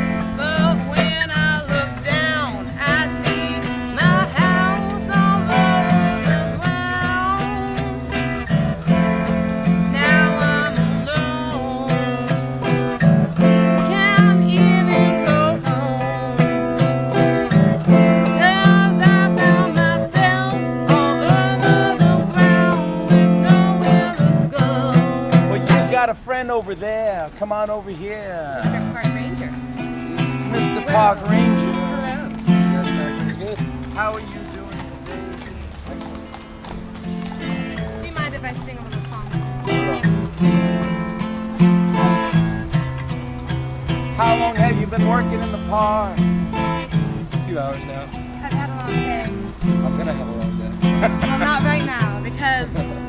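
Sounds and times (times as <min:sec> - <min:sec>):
bending guitar melody line: 0:00.0 - 0:53.0
strummed acoustic guitar: 0:00.0 - 0:53.0.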